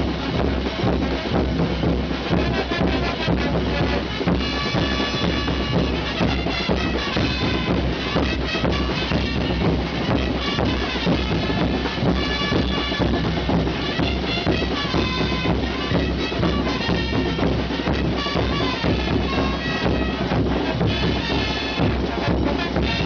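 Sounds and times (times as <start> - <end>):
drums beating: 0.0 - 23.0
shrill wind instrument tones: 2.2 - 23.0.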